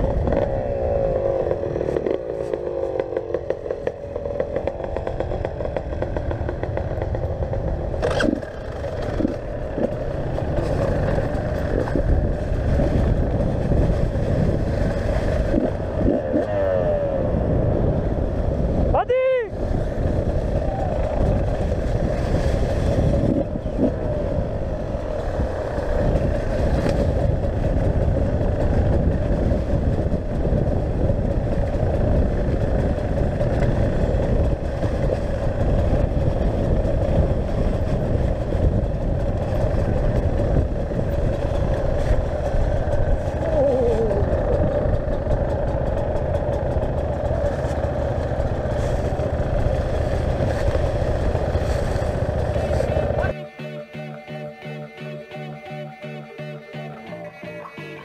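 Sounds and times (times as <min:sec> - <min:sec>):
motorcycle engine running: 0:00.0 - 0:19.0, 0:19.6 - 0:58.0
low wind rumble: 0:00.0 - 0:53.4.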